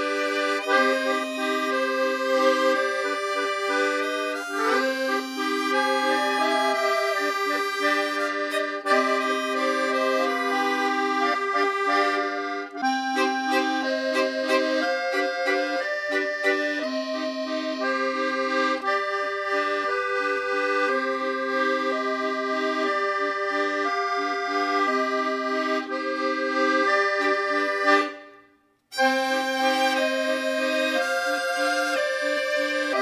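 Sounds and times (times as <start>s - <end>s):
instrumental music with held notes: 0.0s - 33.0s.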